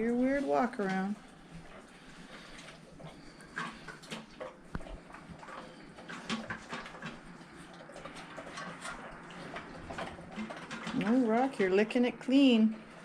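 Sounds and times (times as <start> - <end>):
dog licking food bowl: 0.0 - 13.0.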